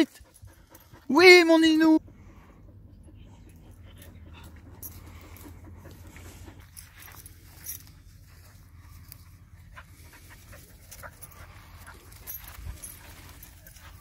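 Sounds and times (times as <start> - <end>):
dog panting: 0.0 - 14.0
low steady hum: 0.1 - 14.0
soft rustles and ticks: 2.6 - 14.0.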